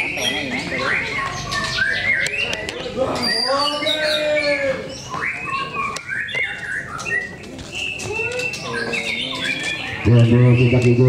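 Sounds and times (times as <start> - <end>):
caged birds singing: 0.0 - 11.0.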